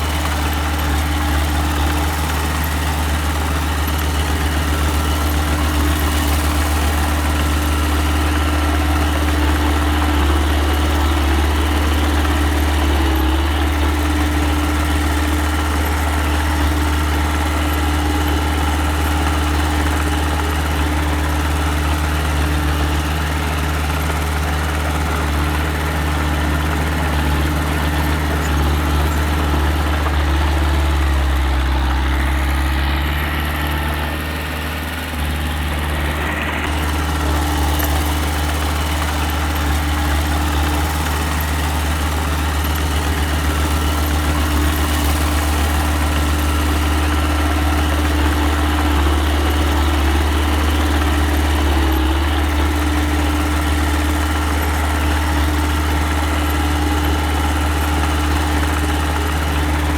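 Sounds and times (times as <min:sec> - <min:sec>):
small earthmoving machine engine running: 0:00.0 - 0:59.9.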